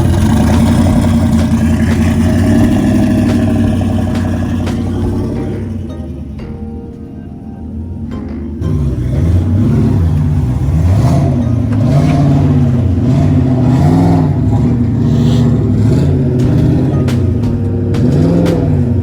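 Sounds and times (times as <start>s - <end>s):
car engine revving in blips: 0.0s - 19.0s.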